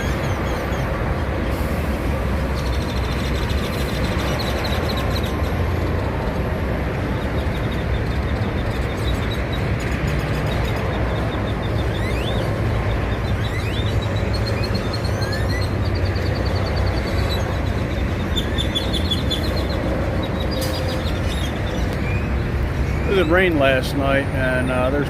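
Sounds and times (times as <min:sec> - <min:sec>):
birds whistling and chirping: 0:00.0 - 0:01.0, 0:02.5 - 0:05.6, 0:07.1 - 0:23.8
vehicle engines idling: 0:00.0 - 0:25.0.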